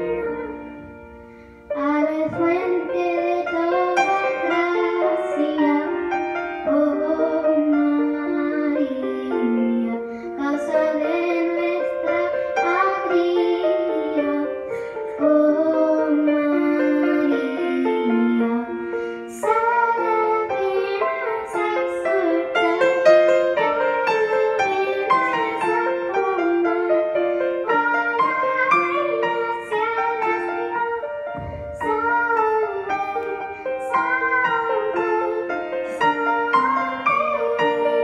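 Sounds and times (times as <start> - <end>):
girl singing a hymn: 0.0 - 38.0
piano accompaniment: 0.0 - 38.0.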